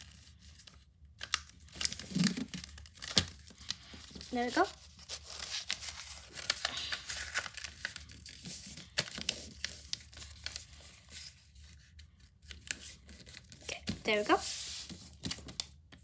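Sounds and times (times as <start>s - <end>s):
paper fold crackles: 0.0s - 16.0s
paper rustling and crinkling: 0.0s - 16.0s.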